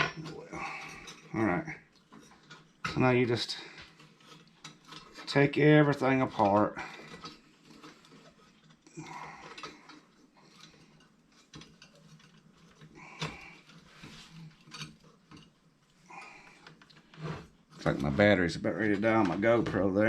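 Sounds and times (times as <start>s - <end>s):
metal parts clicking and scraping: 0.0s - 20.0s.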